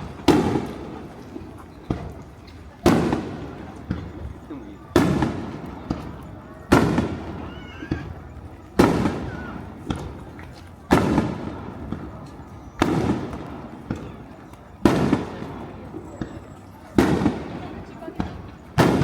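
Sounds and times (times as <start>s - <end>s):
fireworks booming: 0.0s - 8.2s, 8.8s - 10.3s, 10.9s - 19.0s
small fireworks pops: 0.0s - 19.0s.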